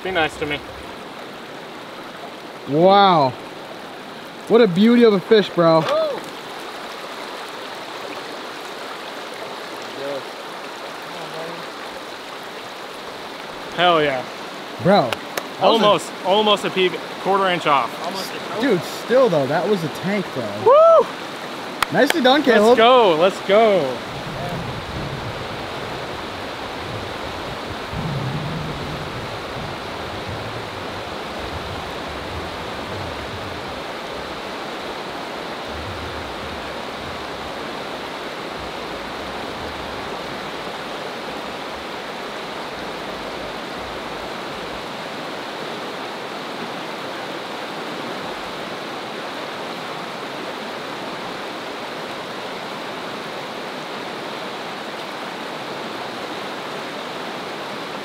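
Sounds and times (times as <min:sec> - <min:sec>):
creek rushing over rocks: 0:00.0 - 0:58.0.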